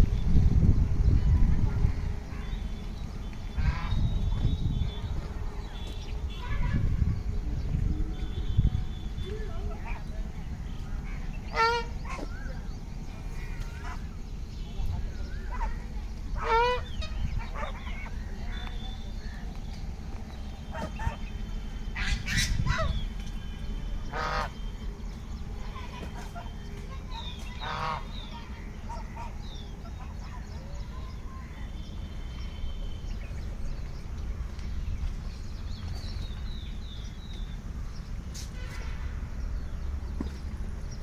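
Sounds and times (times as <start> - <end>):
birds calling: 0.0 - 41.0
steady low rumble: 0.0 - 41.0.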